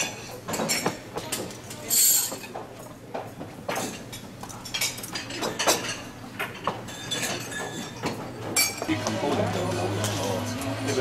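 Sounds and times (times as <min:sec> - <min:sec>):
tableware clinking: 0:00.0 - 0:02.7, 0:03.7 - 0:11.0.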